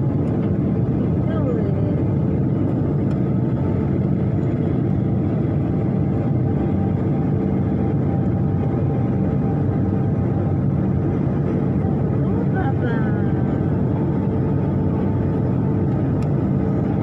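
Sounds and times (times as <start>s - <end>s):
jet airliner cabin rumble: 0.0s - 17.0s.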